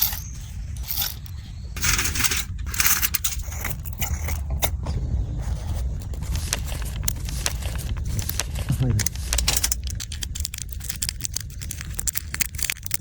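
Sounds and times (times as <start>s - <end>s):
objects clicking and scraping: 0.0s - 13.0s
steady low rumble: 0.0s - 13.0s.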